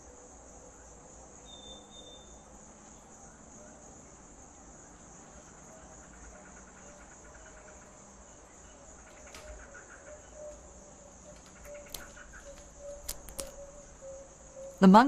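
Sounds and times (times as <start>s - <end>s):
insect chorus buzzing: 0.0s - 15.0s.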